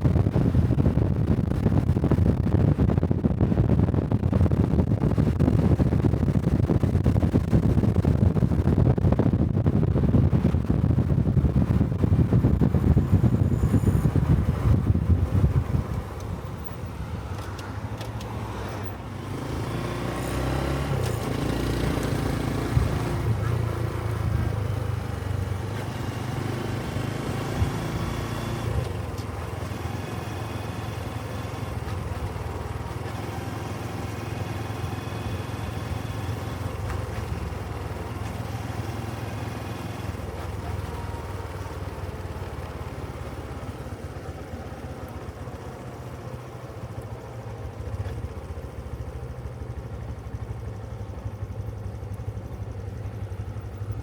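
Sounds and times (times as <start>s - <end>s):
small motorcycle engine running: 9.2s - 54.0s.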